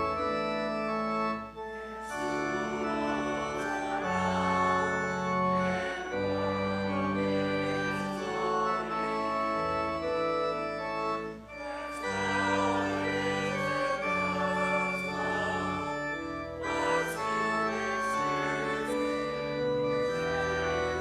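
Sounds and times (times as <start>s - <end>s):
church organ playing chords: 0.0s - 21.0s.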